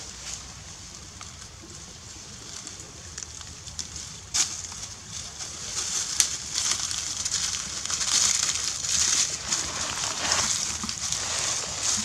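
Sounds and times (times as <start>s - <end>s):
dry leaves crackling underfoot: 0.0s - 12.0s.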